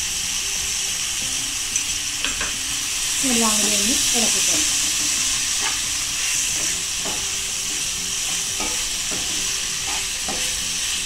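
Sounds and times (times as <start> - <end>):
vegetables sizzling in frying pan: 0.0 - 11.0.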